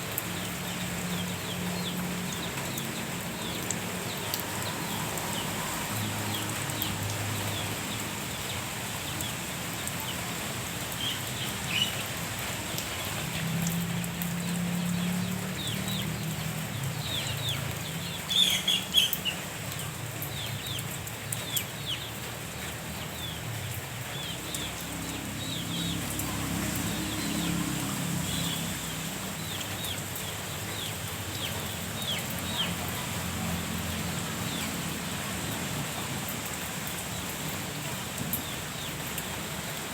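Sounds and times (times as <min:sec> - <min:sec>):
steady rain falling: 0:00.0 - 0:39.9
birds chirping: 0:00.2 - 0:39.9.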